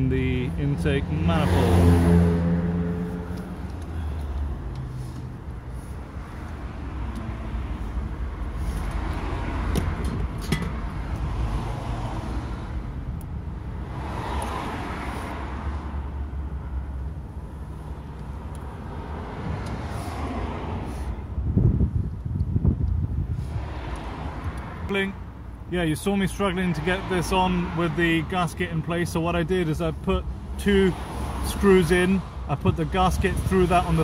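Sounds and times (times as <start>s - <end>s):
cars passing: 0.0s - 34.0s
road traffic rumble: 0.0s - 34.0s.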